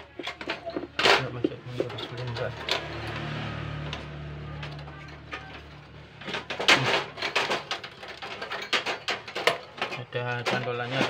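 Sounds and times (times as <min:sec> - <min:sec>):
metallic clicks and rattles: 0:00.0 - 0:03.3, 0:03.9 - 0:11.0.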